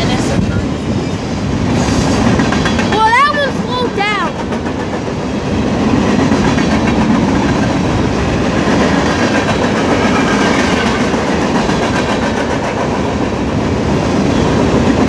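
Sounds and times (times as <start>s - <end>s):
train wheels rumbling on rails: 0.0s - 15.0s
wheels clattering over rail joints: 0.0s - 15.0s.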